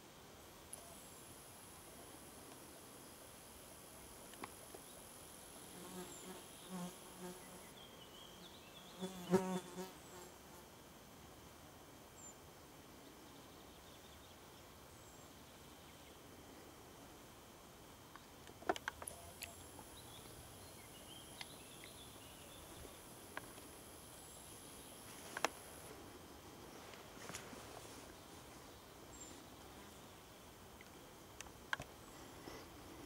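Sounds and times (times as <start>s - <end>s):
high steady insect buzz: 0.0s - 33.0s.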